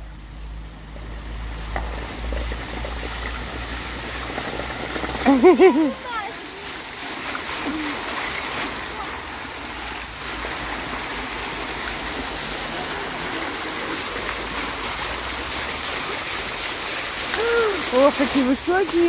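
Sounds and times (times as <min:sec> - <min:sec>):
fountain water jets splashing: 0:00.0 - 0:19.0.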